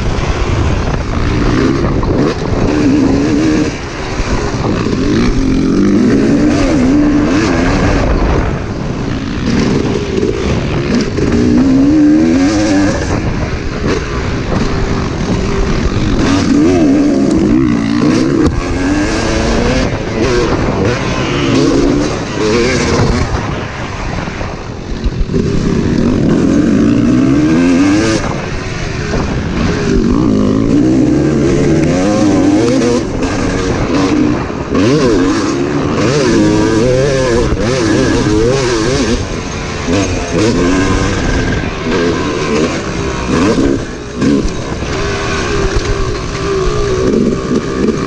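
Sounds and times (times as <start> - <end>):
dirt bike engine revving: 0.0 - 48.0
wind noise on microphone: 0.0 - 48.0.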